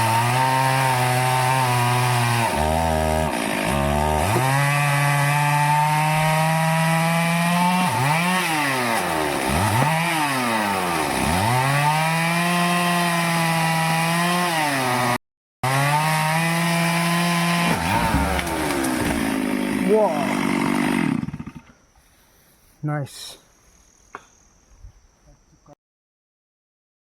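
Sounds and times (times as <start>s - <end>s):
chainsaw cutting wood: 0.0s - 21.8s.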